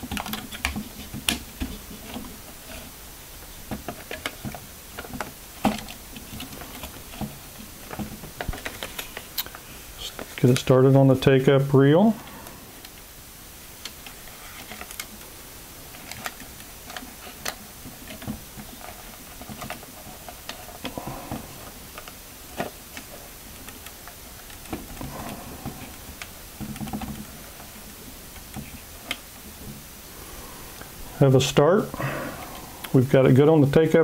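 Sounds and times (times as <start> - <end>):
faint paper rustling: 0.0 - 10.9, 13.8 - 34.0.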